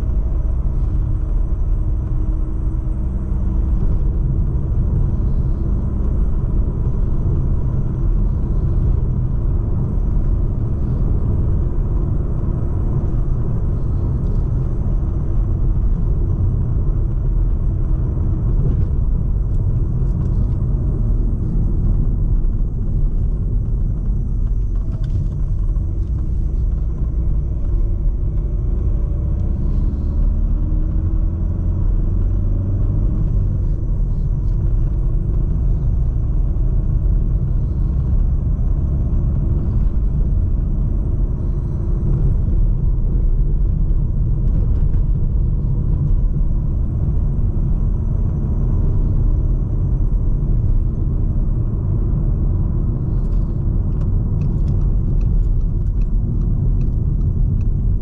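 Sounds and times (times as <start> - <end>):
diesel car engine running: 0.0 - 58.0
road noise: 0.0 - 58.0.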